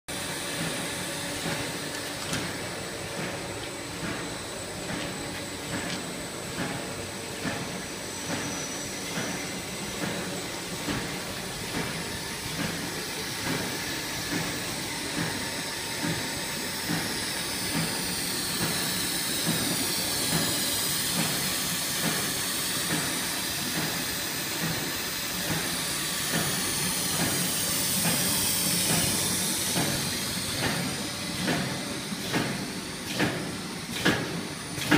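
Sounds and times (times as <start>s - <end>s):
machine noise and hiss: 0.1s - 34.9s.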